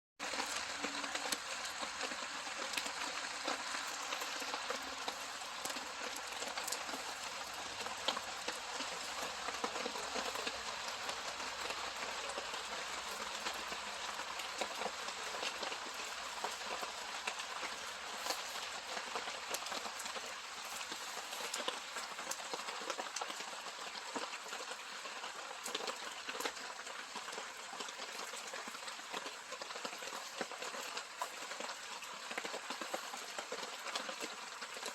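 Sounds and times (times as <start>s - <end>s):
campfire crackles: 0.2s - 34.9s
steady rain falling: 0.2s - 34.9s.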